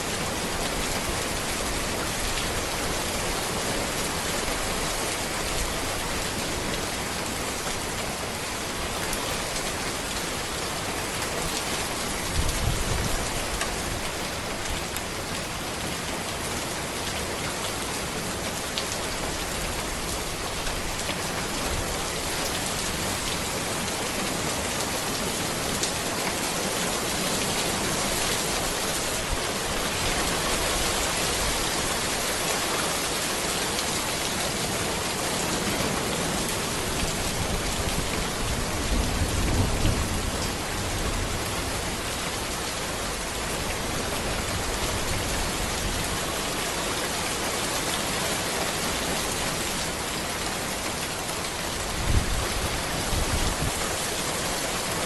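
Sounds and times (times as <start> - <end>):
rain falling on a road: 0.0 - 55.0.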